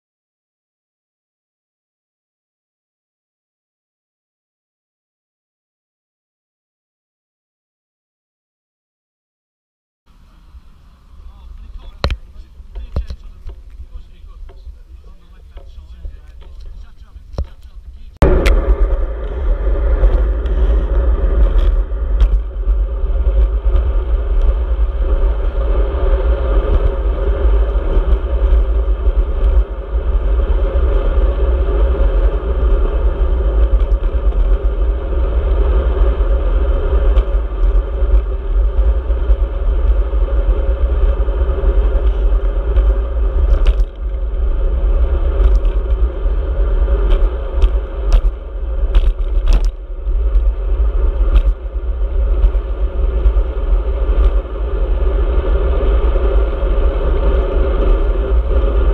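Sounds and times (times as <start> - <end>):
road rumble: 10.1 - 58.9
wind buffeting microphone: 10.2 - 58.9.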